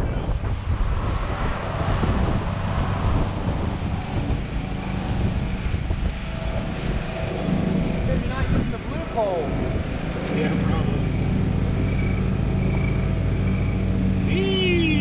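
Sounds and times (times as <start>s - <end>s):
motor vehicle rumble: 0.0s - 15.0s
outdoor noise: 0.0s - 15.0s.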